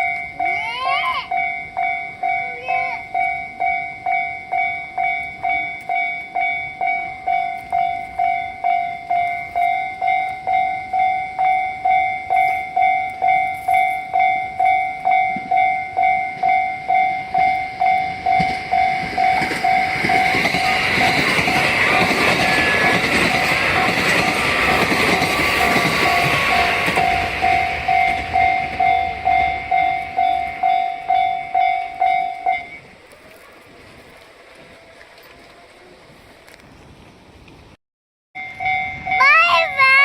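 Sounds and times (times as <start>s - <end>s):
level crossing warning bell: 0.0s - 33.0s, 38.4s - 40.0s
approaching train: 0.0s - 37.8s, 38.4s - 40.0s.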